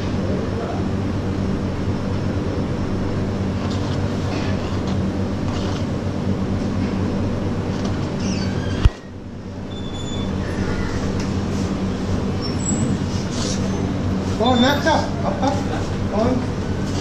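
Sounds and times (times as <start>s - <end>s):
low rumble with hum: 0.0s - 17.0s.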